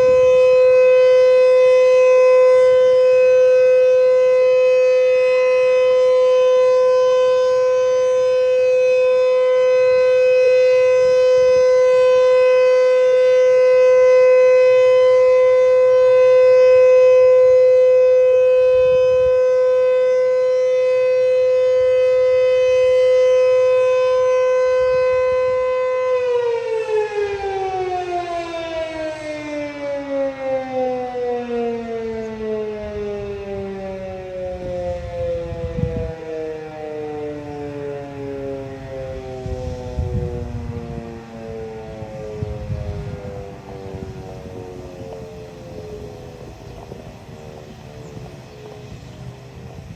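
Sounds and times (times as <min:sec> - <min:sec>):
warning siren: 0:00.0 - 0:49.9.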